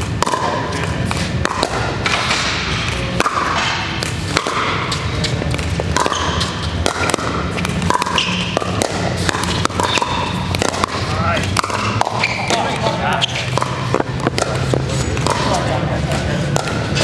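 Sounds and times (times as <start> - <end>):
paddles hitting ball in gym hall: 0.0 - 17.0.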